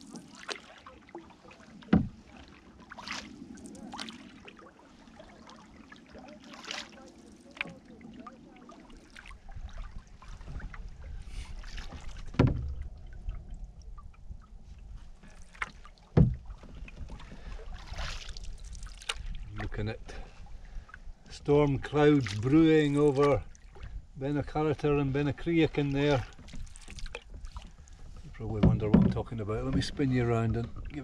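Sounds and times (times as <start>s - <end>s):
paddle splashing through water: 0.0s - 24.0s, 24.8s - 31.0s.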